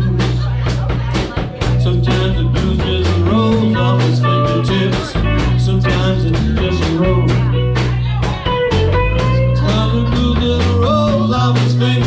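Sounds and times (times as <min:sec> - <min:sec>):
bass guitar: 0:00.0 - 0:12.0
steady drum beat: 0:00.0 - 0:12.0.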